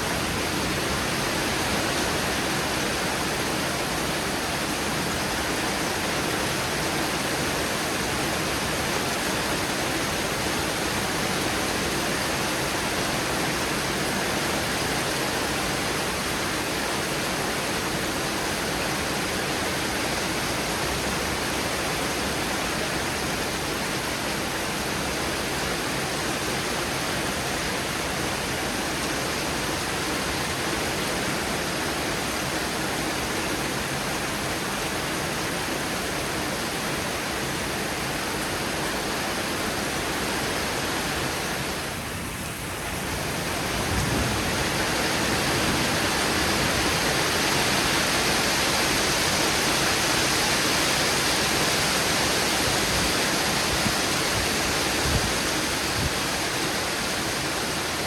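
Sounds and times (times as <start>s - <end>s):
heavy rain downpour: 0.0s - 58.0s.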